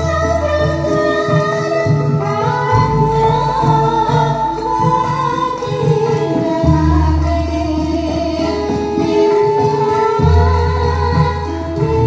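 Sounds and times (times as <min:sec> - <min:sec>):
music with singing over pa: 0:00.0 - 0:12.0.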